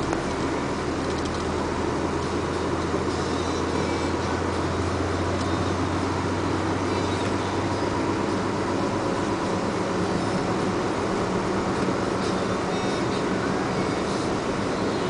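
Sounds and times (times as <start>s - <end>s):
road noise: 0.0s - 15.0s
truck engine droning: 0.0s - 15.0s.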